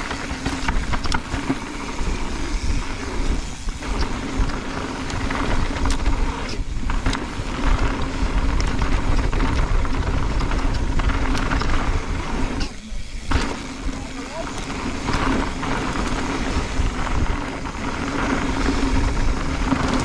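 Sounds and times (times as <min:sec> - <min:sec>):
bike rattles and clicks: 0:00.0 - 0:20.0
wind rumble on microphone: 0:00.0 - 0:20.0.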